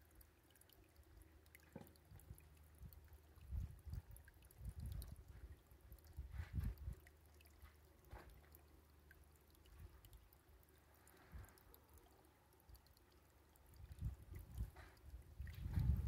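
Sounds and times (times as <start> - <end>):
soft ticks: 0.0 - 16.0.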